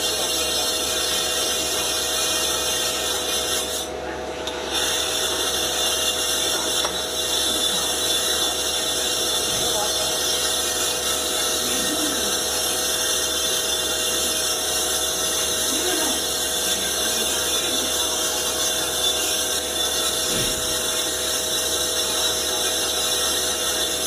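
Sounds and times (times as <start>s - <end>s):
lathe running with high whine: 0.0s - 24.0s.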